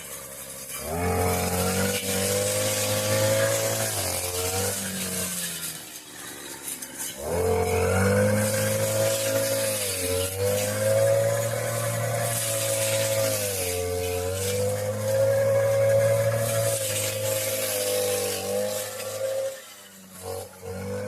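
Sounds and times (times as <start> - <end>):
lawn mower engine cutting brush: 0.0 - 21.0.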